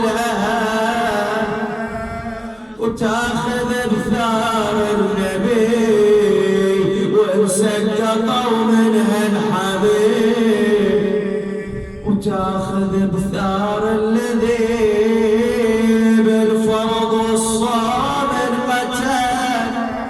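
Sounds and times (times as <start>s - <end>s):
man chanting a lament: 0.0s - 20.0s.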